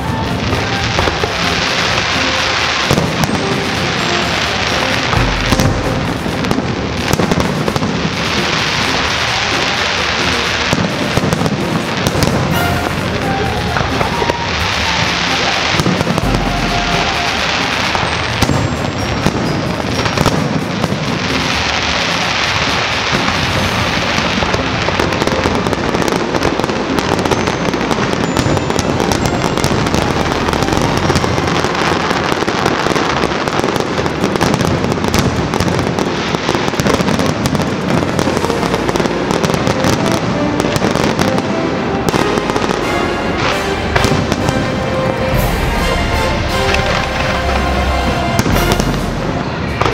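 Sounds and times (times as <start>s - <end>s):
firework bangs: 0.0s - 49.9s
firework crackling: 0.0s - 49.9s.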